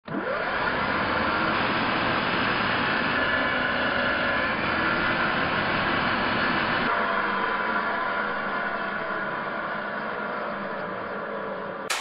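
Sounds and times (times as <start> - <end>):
drill motor whine: 0.1 - 12.0.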